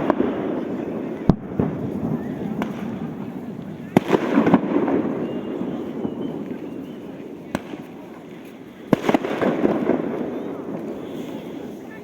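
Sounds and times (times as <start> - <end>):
firework bangs: 0.0 - 12.0.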